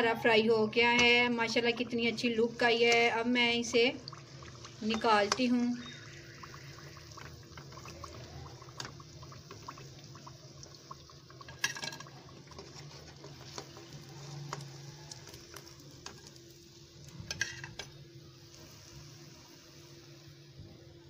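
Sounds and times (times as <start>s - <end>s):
hot oil crackling and sizzling: 0.0s - 21.0s.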